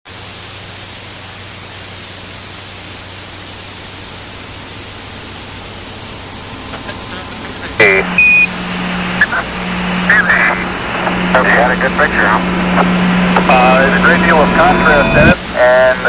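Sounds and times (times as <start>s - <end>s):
low hum: 0.1s - 16.0s
television static hiss: 0.1s - 16.0s.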